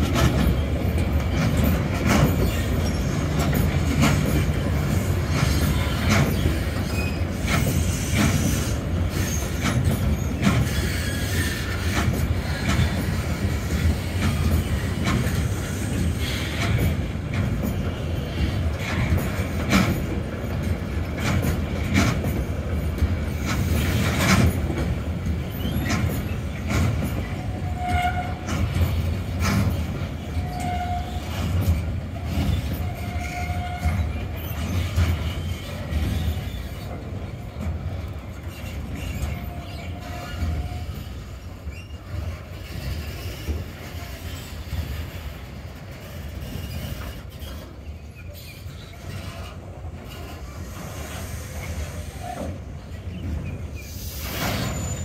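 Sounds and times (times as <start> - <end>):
train wheels clacking over joints: 0.0 - 55.0
wheel squeals: 0.2 - 20.1, 25.4 - 37.6, 38.4 - 55.0.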